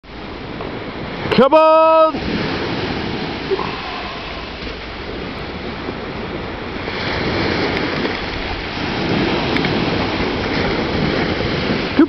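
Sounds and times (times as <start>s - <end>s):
small waves breaking: 0.0s - 12.0s
wind rumbling on microphone: 2.0s - 12.0s.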